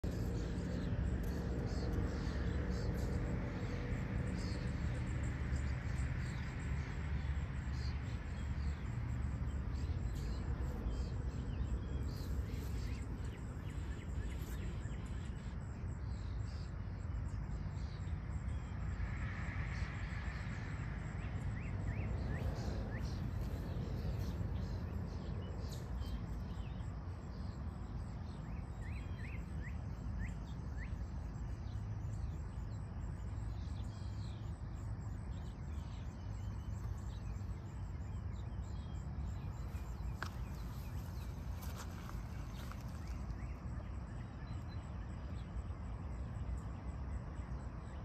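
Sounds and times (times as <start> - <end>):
small birds chirping: 0.0 - 19.0, 19.8 - 48.0
steady low rumble: 0.0 - 48.0.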